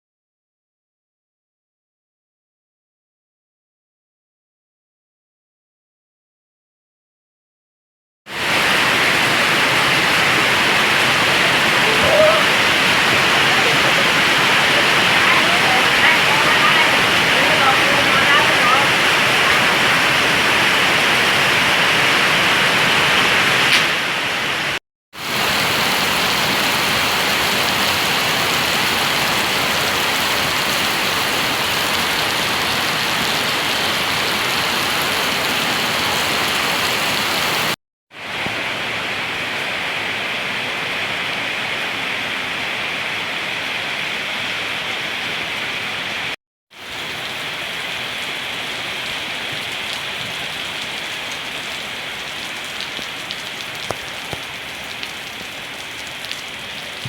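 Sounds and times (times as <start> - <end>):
heavy rain: 8.3 - 57.0.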